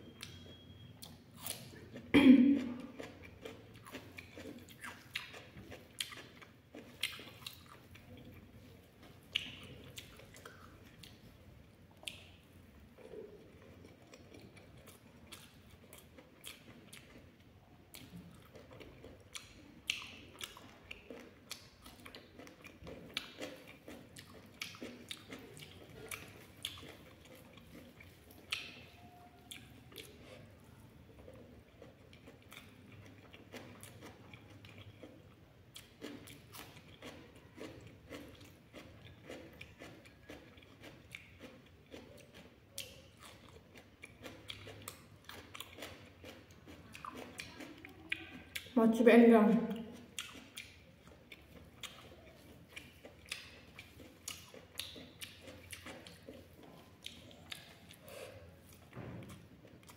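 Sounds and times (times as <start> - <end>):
wet chewing: 0.1 - 48.8, 49.7 - 59.9.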